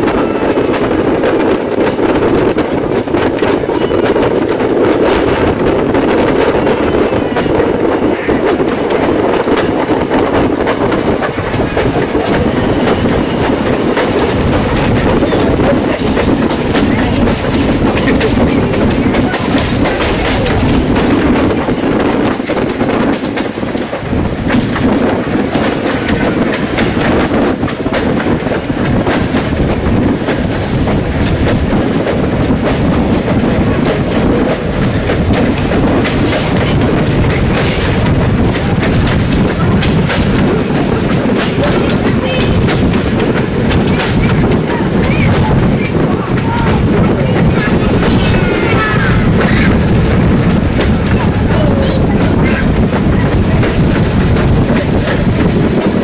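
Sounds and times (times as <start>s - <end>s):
train wheels clickety-clack on rails: 0.0s - 56.0s.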